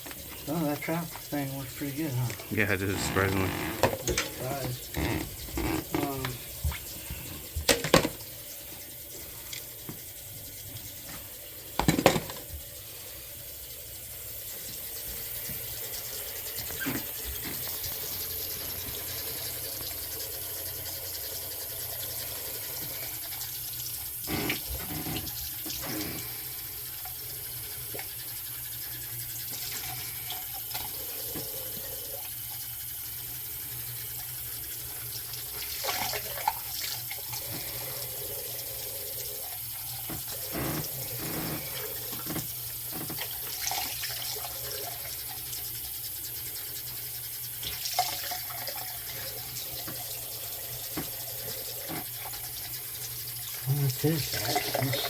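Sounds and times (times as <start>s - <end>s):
faucet water running into sink: 0.0s - 55.0s.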